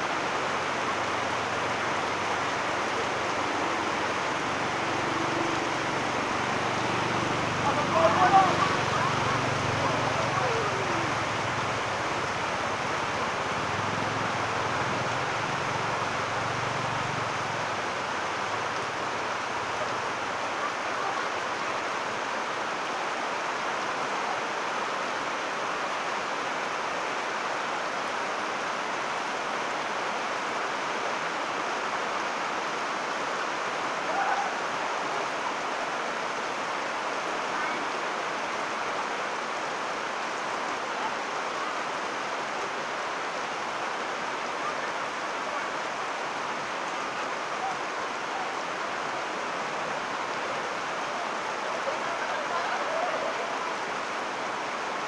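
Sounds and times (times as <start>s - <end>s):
heavy rain on standing water: 0.0s - 55.0s.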